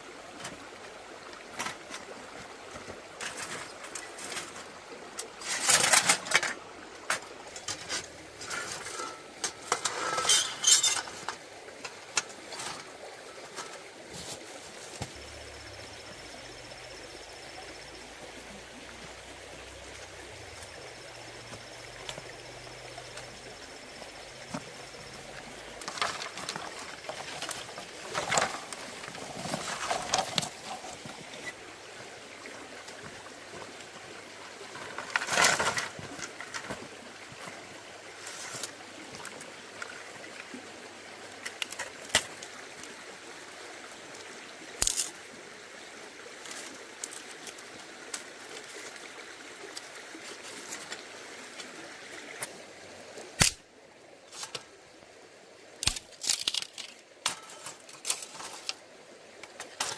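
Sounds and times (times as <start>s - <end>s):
stream running: 0.0s - 59.9s.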